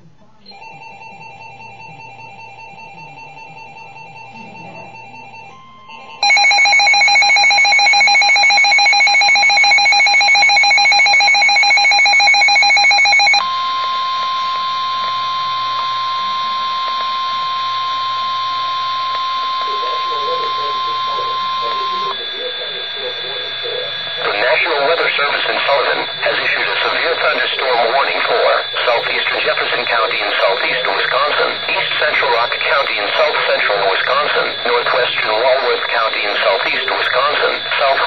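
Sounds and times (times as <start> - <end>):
harsh two-tone attention signal: 6.2 - 38.0
steady warning tone: 6.2 - 38.0.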